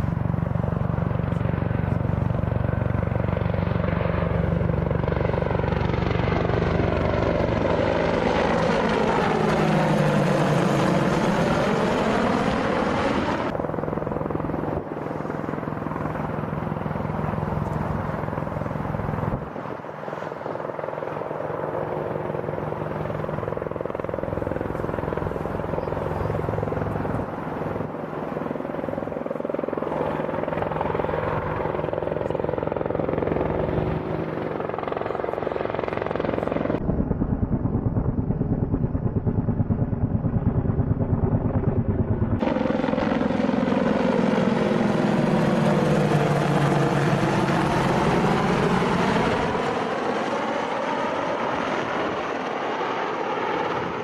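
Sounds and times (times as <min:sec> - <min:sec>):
helicopter rotor and engines: 0:00.0 - 0:54.0.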